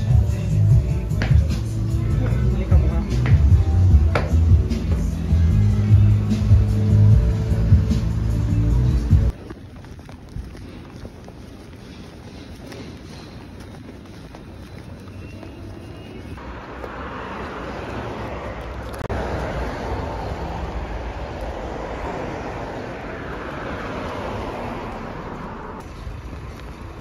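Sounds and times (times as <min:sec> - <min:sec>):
street traffic noise: 0:00.0 - 0:27.0.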